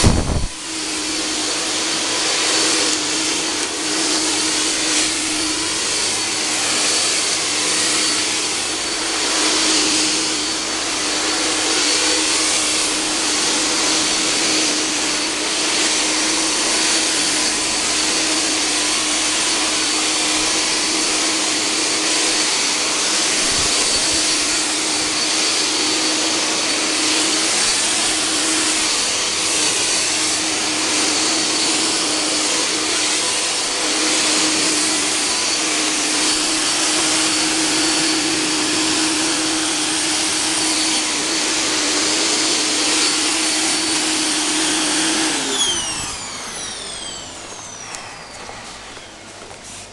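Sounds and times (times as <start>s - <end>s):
fog generator motor whine: 0.0s - 49.9s
rushing hiss of air: 0.0s - 49.9s.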